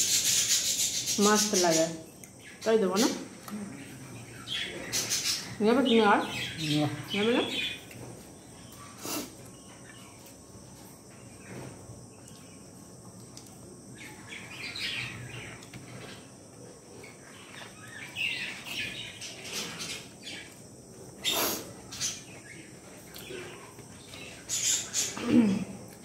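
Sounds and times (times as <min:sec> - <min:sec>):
birds chirping: 0:00.0 - 0:13.1, 0:13.8 - 0:25.9.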